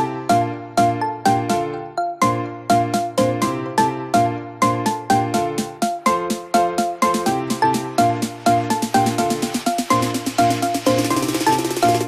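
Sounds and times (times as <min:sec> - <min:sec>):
melody of struck notes over bass: 0:00.0 - 0:12.0.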